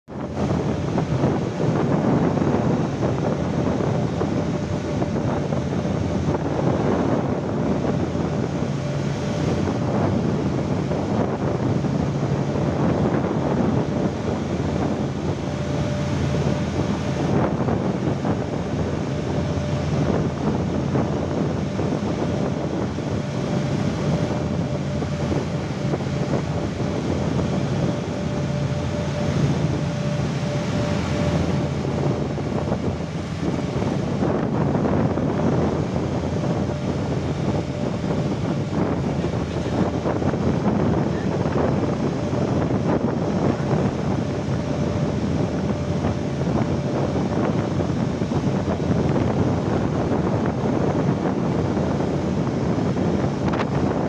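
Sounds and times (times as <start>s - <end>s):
boat engine humming: 0.1s - 54.0s
water rushing past hull: 0.1s - 54.0s
wind buffeting microphone: 0.1s - 54.0s.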